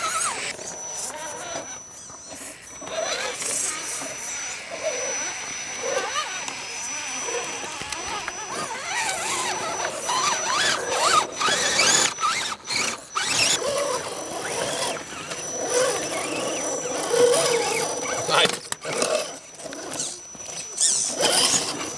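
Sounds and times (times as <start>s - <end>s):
rc crawler motors whining: 0.0s - 21.9s.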